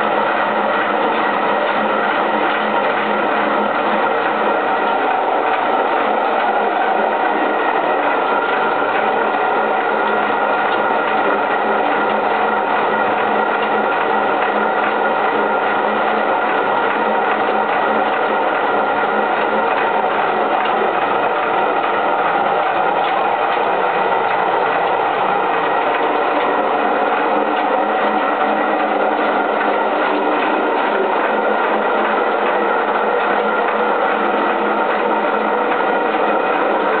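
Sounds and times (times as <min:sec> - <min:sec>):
fast wooden clatter: 0:00.0 - 0:37.0.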